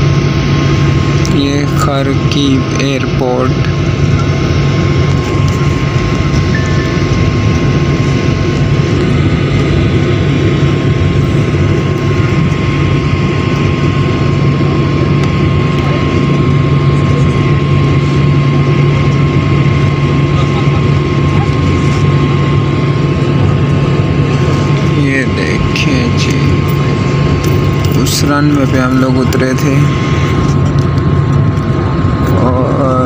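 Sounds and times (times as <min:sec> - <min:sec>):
jet engines idling hum: 0:00.0 - 0:33.0
thin steady whine: 0:00.0 - 0:33.0.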